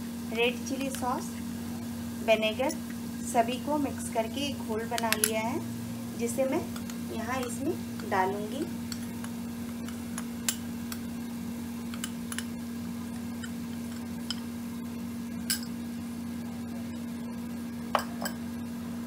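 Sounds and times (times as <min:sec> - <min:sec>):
sauce sizzling in frying pan: 0:00.0 - 0:18.7
steady low hum: 0:00.0 - 0:19.0.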